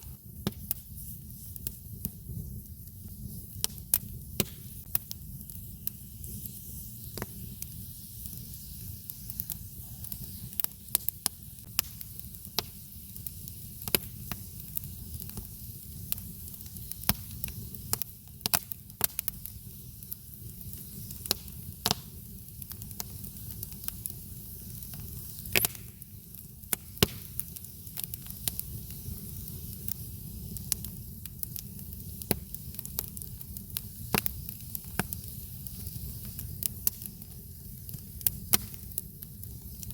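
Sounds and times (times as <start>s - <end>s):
burning wood crackling and popping: 0.0s - 39.9s
campfire rumble and hiss: 0.0s - 39.9s.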